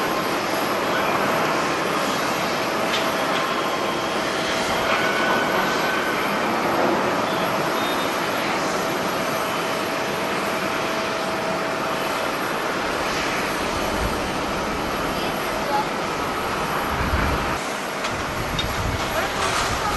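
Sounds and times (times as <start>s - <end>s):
jet engines rushing: 0.0s - 19.9s.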